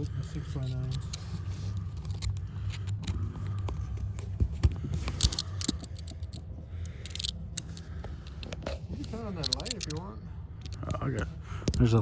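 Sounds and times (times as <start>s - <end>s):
light clicks and rattles of parts: 0.0s - 12.0s
steady low hum: 0.0s - 12.0s.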